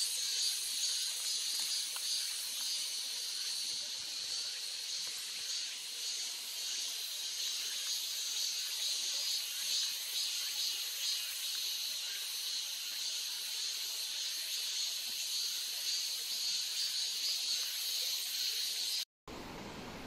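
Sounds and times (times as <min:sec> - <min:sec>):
stream hiss: 0:00.0 - 0:20.0.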